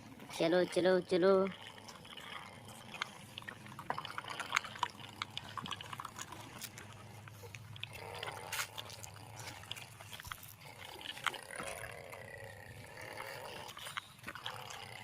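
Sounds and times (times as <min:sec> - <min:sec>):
toy tractor hum: 0:00.0 - 0:15.0.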